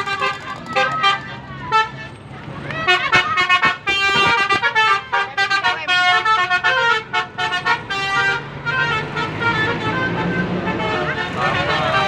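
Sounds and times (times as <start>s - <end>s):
bus horn playing melodic tune: 0.0s - 12.0s.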